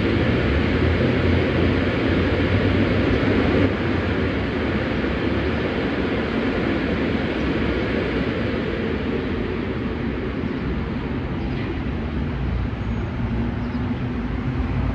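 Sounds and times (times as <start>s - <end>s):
car-wash dryers blowing air: 0.0s - 14.9s.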